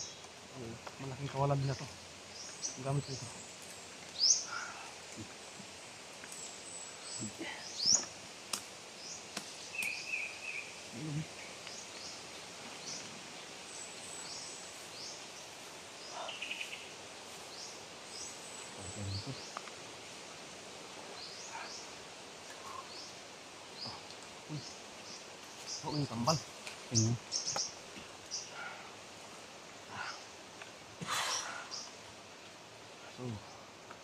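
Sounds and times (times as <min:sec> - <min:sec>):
birds chirping: 0:00.0 - 0:08.2, 0:08.9 - 0:32.2
steady background hiss: 0:00.0 - 0:34.0.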